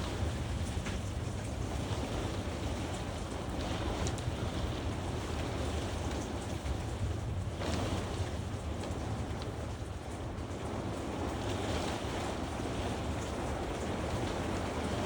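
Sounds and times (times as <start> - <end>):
rain: 0.0 - 15.0
wind buffeting microphone: 0.0 - 15.0.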